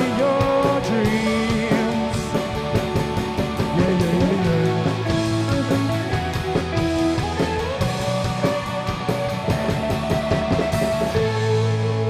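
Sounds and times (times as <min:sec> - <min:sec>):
bass guitar: 0:00.0 - 0:12.0
drum kit: 0:00.0 - 0:12.0
electric guitars: 0:00.0 - 0:12.0.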